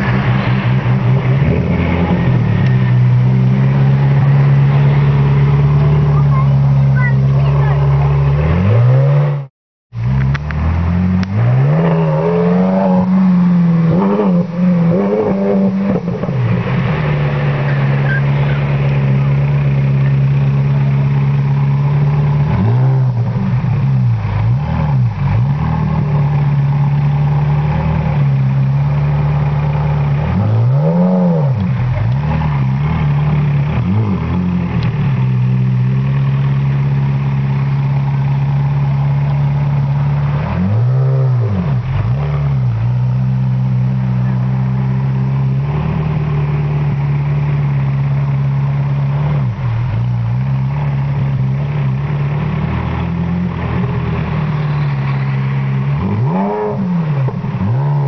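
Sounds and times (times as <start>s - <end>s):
engine drone: 0.0s - 58.0s
engine throttle blips: 0.0s - 58.0s.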